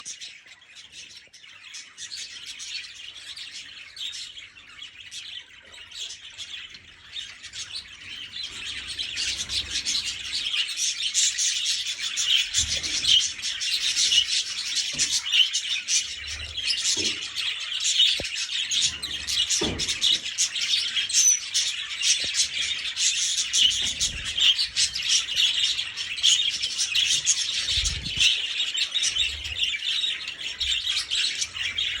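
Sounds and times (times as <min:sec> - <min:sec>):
budgerigars chattering and chirping: 0:00.0 - 0:32.0.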